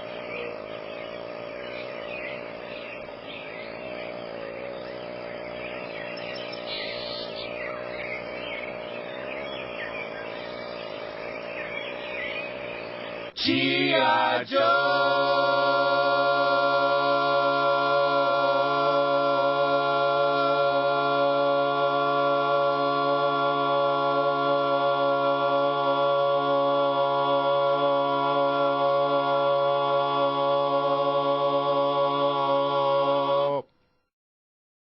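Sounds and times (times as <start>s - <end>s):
low droning vocal tone: 0.0s - 34.1s.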